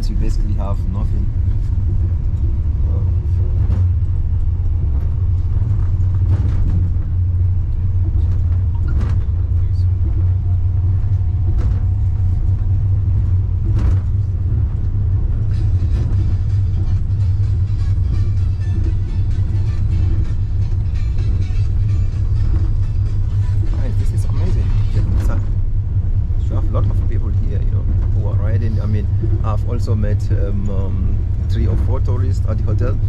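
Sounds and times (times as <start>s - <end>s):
railway car rumbling: 0.0s - 33.0s.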